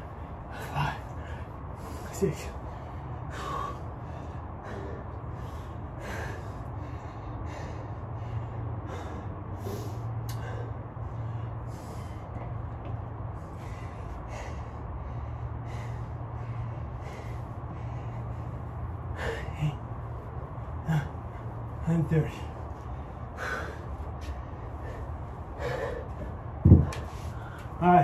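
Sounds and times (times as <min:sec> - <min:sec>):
low hum: 0:00.0 - 0:28.0
man breathing hard: 0:00.0 - 0:28.0.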